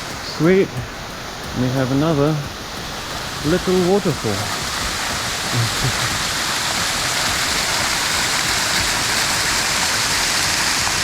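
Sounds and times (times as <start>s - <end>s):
small waterfall pouring: 0.0s - 11.0s.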